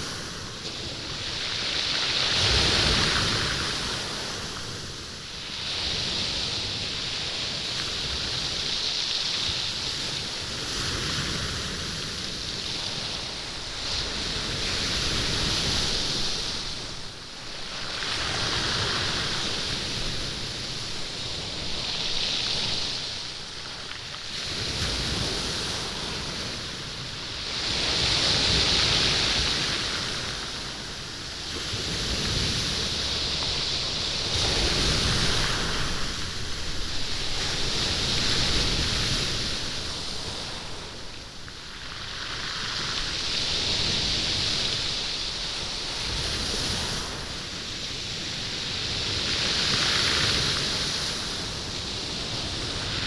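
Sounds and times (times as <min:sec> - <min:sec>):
waves rattling beach stones: 0:00.0 - 0:53.0.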